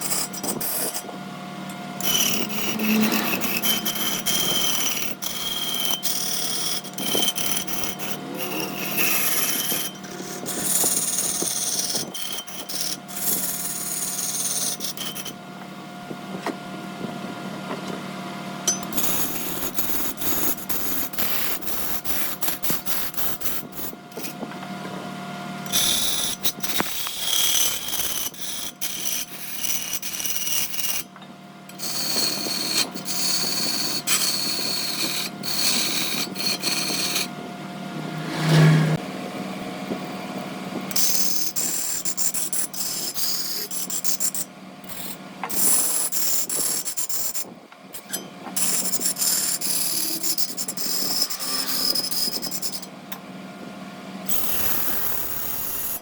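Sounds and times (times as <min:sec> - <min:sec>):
turning tool cutting wood: 0:00.0 - 0:01.1, 0:01.7 - 0:15.4, 0:18.7 - 0:24.6, 0:25.6 - 0:31.1, 0:31.7 - 0:39.0, 0:39.9 - 0:53.0, 0:54.3 - 0:56.0
lathe motor hum: 0:00.0 - 0:47.6.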